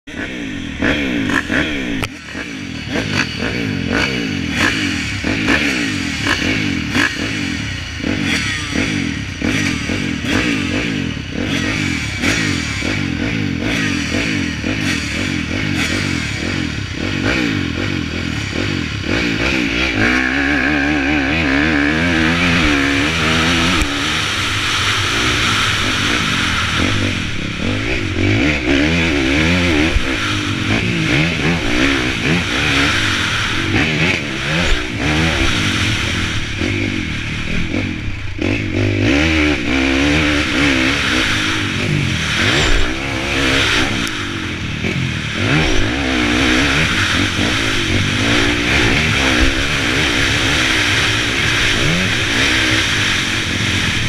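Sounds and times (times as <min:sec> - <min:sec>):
motocross bike engines revving: 0:00.0 - 0:54.0
motorbike accelerating through gears: 0:00.0 - 0:54.0.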